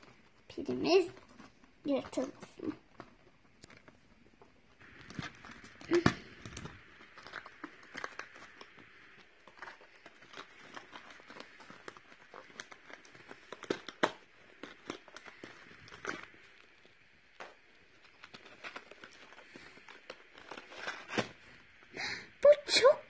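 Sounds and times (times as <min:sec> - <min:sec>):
packaging rustling and crinkling: 0:00.0 - 0:21.9.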